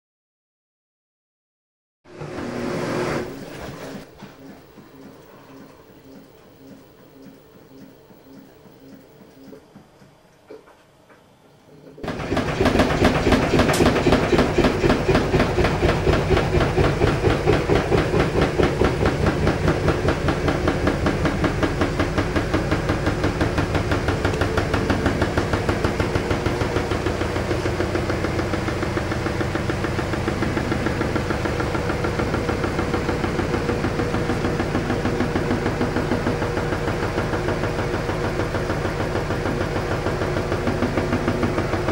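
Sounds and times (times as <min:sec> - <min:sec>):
washing machine vibrating rattle: 0:02.1 - 0:41.9.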